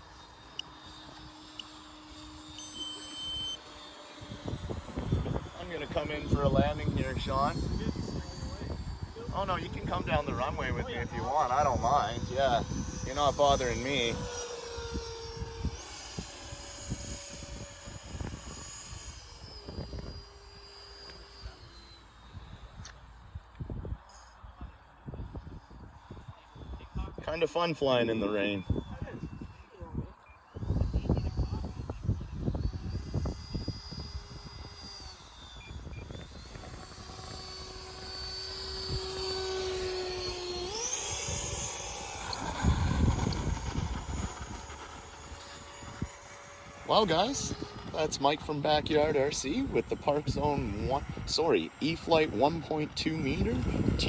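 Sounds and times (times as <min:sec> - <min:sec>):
model airplane motor whining: 0:00.0 - 0:54.0
wind on microphone: 0:04.1 - 0:27.4, 0:28.6 - 0:54.0.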